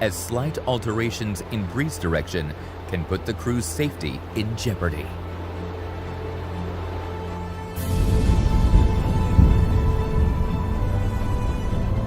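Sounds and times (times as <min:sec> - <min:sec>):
dark ominous soundtrack music: 0:00.0 - 0:12.0.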